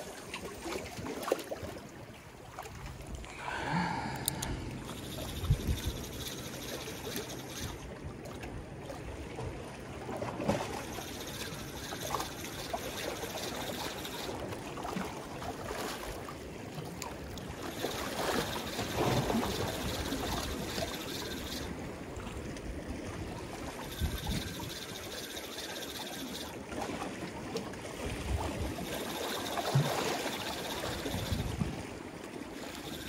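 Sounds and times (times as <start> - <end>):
water lapping against concrete: 0.0 - 5.3, 6.1 - 32.8.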